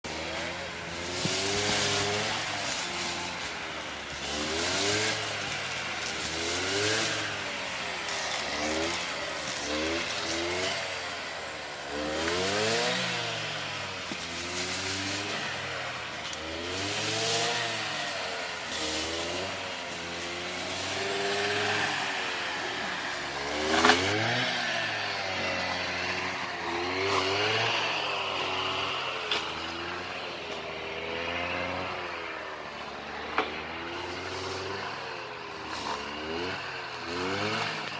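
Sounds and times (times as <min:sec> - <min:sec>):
engine revving: 0:00.0 - 0:37.9.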